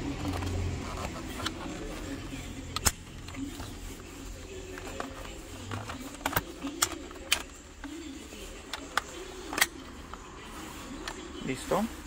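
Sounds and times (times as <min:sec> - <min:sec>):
soft handling rustle: 0:00.0 - 0:12.0.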